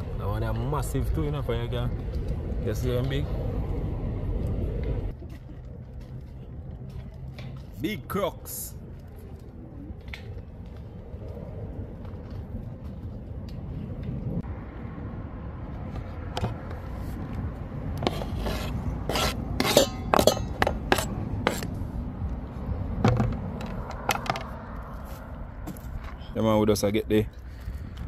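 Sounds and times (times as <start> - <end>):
steady low rumble: 0.0 - 7.8, 8.7 - 28.0.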